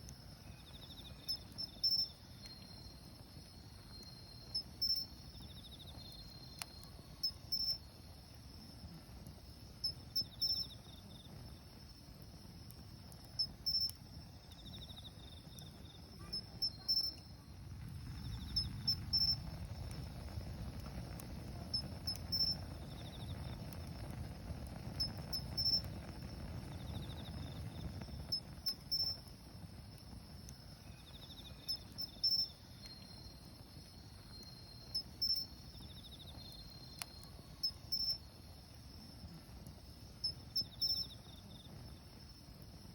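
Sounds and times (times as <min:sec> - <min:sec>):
campfire rushing rumble: 0:00.0 - 0:42.9
crickets chirping: 0:00.0 - 0:42.9
insect pulsed trill: 0:00.4 - 0:08.3, 0:09.8 - 0:11.3, 0:13.2 - 0:39.3, 0:39.9 - 0:41.7.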